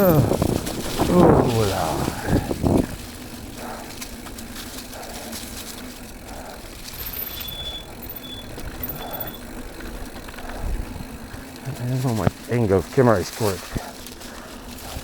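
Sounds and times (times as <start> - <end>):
bike clicks and rattles: 0.0 - 15.0
bike tyre noise on dirt: 0.0 - 15.0
steady low hum: 0.0 - 15.0.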